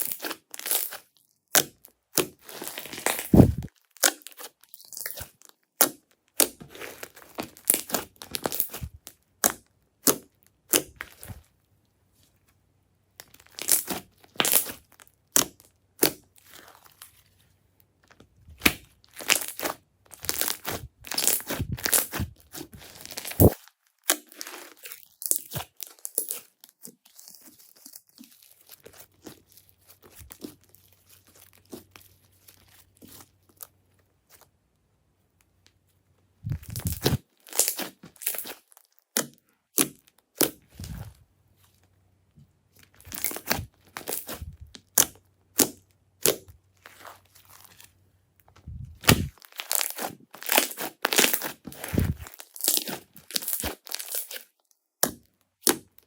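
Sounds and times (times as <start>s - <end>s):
slime crackling and popping: 0.0s - 11.4s, 13.2s - 17.0s, 18.5s - 33.7s, 36.5s - 41.1s, 42.8s - 47.9s, 48.9s - 56.0s.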